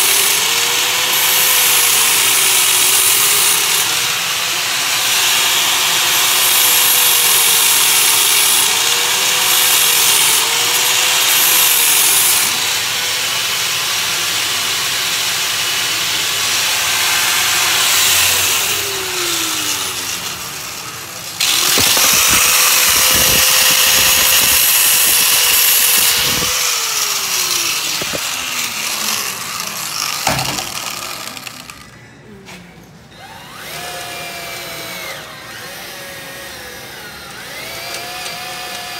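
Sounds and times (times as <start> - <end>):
drill scuffing sheet metal: 0.0 - 31.8.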